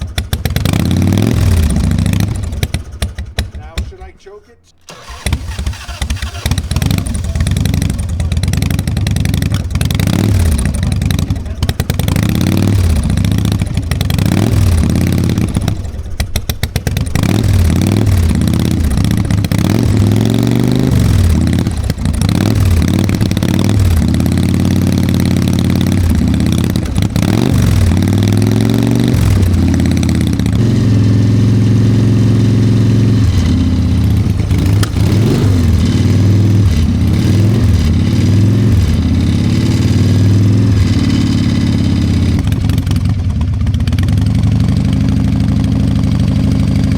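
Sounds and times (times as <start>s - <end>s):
motorcycle engine revving: 0.0s - 4.1s, 4.8s - 46.9s.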